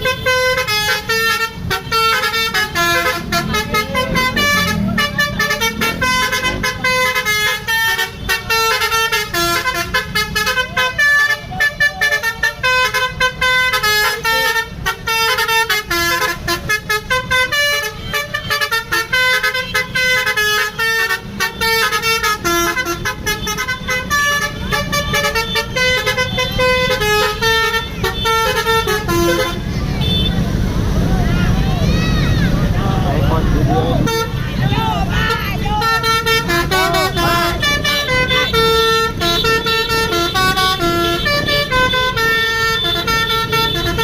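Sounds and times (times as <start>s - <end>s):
bus horn playing melody: 0.0s - 30.4s, 33.6s - 44.0s
bus engine running: 0.0s - 44.0s.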